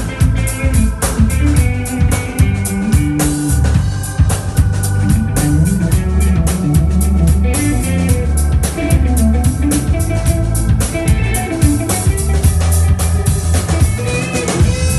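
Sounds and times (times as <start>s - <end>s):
drum kit beat: 0.0s - 14.9s
live band playing: 0.0s - 14.9s.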